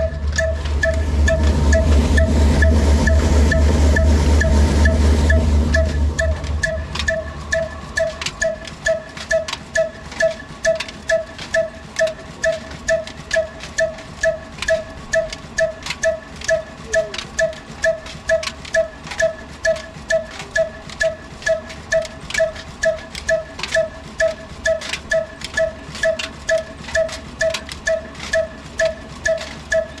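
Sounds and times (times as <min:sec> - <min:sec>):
diesel engine knocking: 0:00.0 - 0:30.0.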